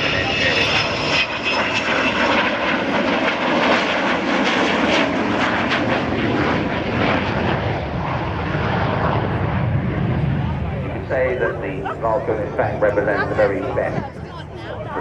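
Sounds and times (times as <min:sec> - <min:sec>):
jet bomber engines roaring with crackles: 0:00.0 - 0:15.0.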